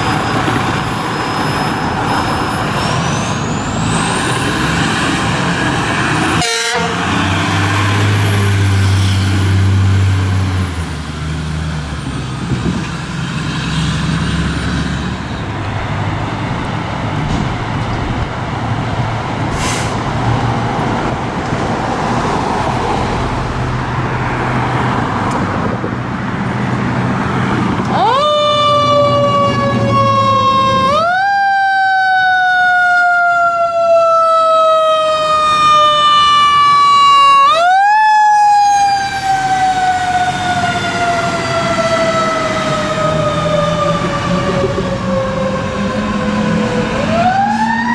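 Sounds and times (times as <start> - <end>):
fire truck engines running: 0.0 - 47.9
fire truck siren wailing: 0.0 - 47.9
road noise: 0.0 - 47.9.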